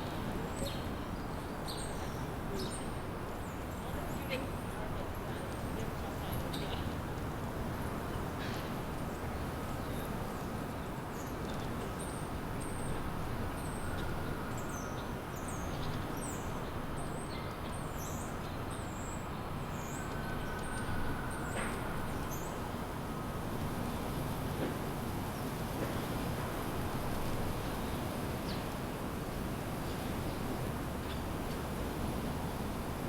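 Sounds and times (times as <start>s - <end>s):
distant city traffic rumble: 0.0s - 33.0s.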